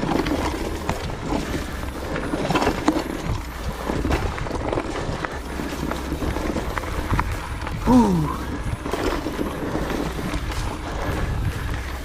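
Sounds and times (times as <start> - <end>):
bike clicks and rattles: 0.0 - 12.0.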